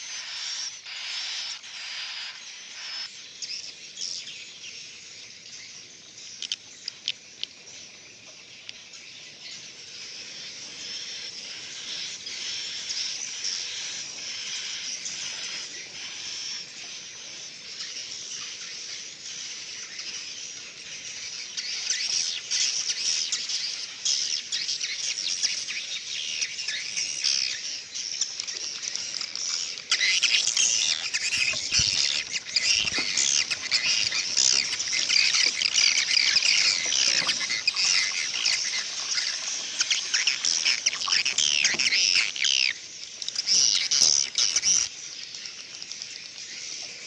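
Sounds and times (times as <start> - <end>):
swiftlets twittering and chirping: 0.0 - 3.7, 9.8 - 46.6.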